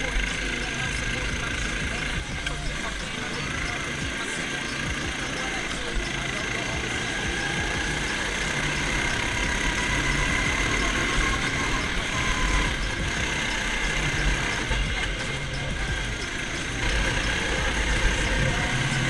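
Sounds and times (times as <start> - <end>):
go-kart engines at speed: 0.0 - 19.0.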